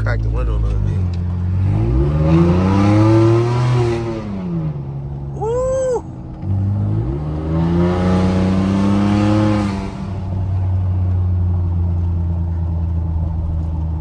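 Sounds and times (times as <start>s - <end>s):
car engine accelerating hard: 0.0s - 5.3s, 6.2s - 14.0s.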